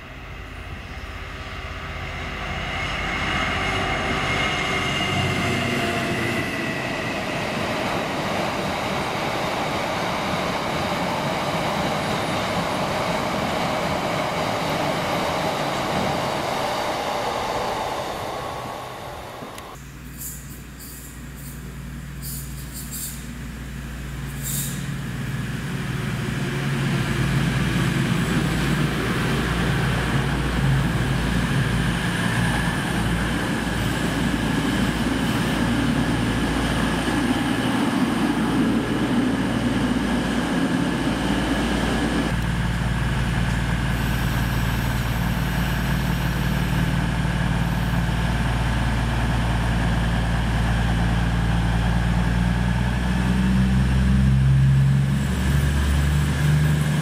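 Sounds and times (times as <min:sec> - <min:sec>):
diesel engine hum: 0:00.0 - 0:57.0
train rumble pulling in: 0:00.0 - 0:57.0.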